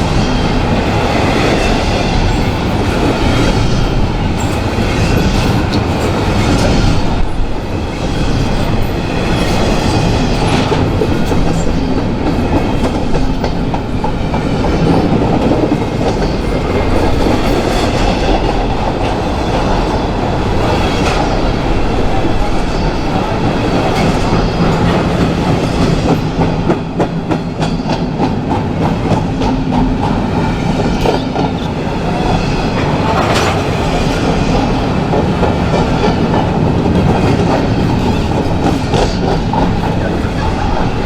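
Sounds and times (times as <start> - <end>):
rail clicks: 0.0 - 41.0
train wheels rumbling on track: 0.0 - 41.0.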